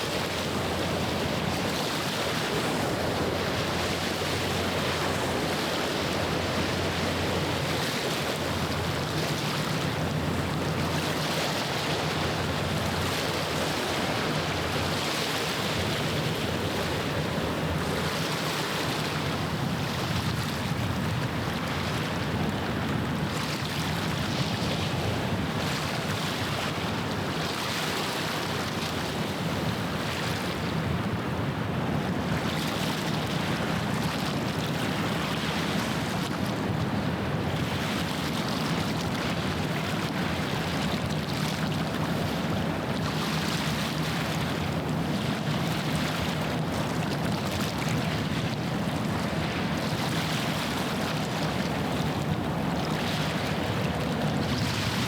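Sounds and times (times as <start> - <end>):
small waves washing on shore: 0.0 - 55.0.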